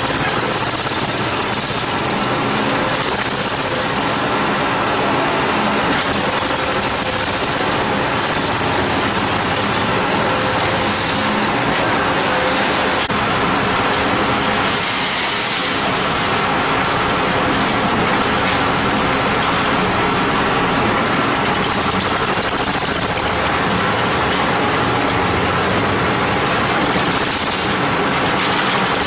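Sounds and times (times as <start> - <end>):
concrete mixer pump running: 0.0 - 29.0.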